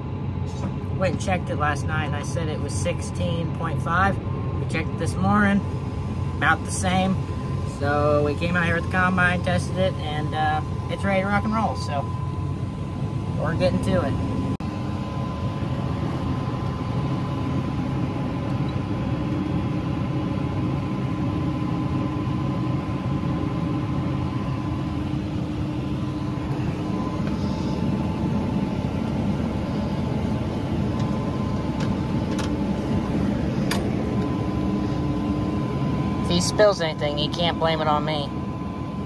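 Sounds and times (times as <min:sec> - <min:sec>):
engine droning from inside cab: 0:00.0 - 0:39.0
faint steady whine: 0:00.0 - 0:39.0.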